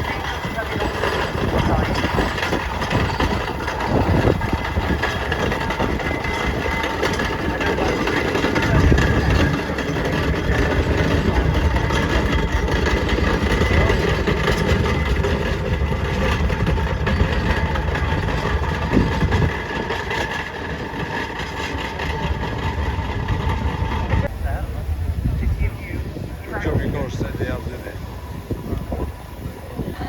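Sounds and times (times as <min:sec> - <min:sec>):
engines running: 0:00.0 - 0:30.0.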